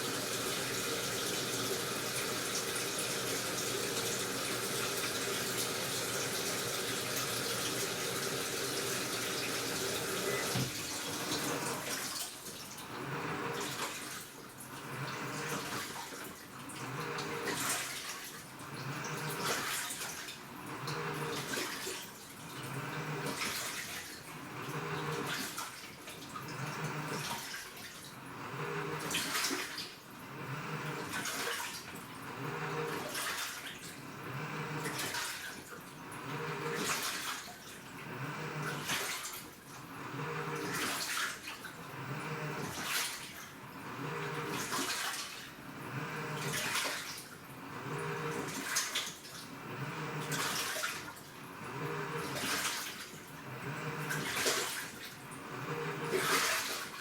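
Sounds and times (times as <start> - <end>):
water rushing into washing machine: 0.0 - 57.0
water sloshing in washing machine: 0.0 - 57.0.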